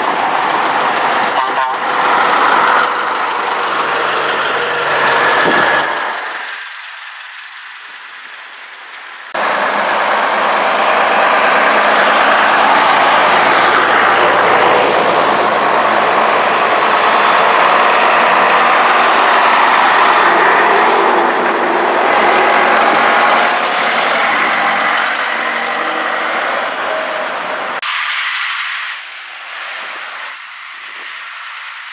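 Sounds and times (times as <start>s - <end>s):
diesel truck engine: 0.0s - 31.9s.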